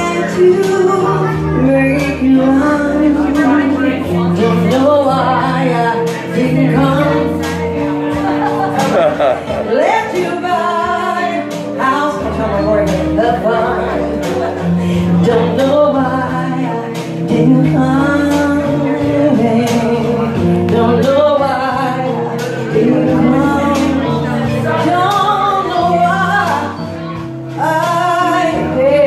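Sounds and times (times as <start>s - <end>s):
woman singing: 0.0s - 8.9s, 9.5s - 29.0s
instrumental accompaniment: 0.0s - 29.0s.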